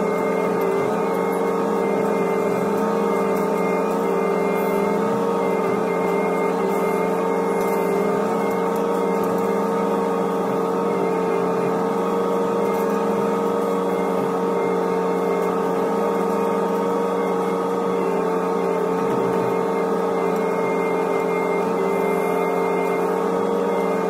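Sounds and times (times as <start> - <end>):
excavator diesel engine hum: 0.0 - 24.0.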